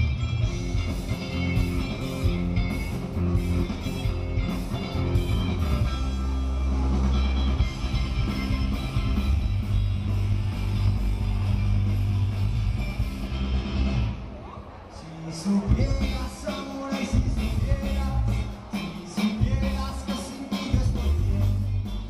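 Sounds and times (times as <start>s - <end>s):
rock band playing live: 0.0s - 14.3s, 15.4s - 22.0s.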